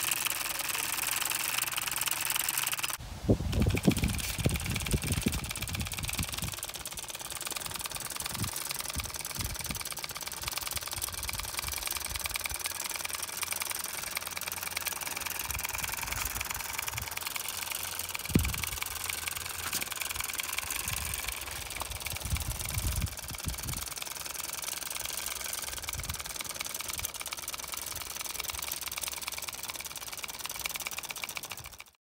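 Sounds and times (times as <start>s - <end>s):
solenoid engine clicking: 0.0s - 32.0s.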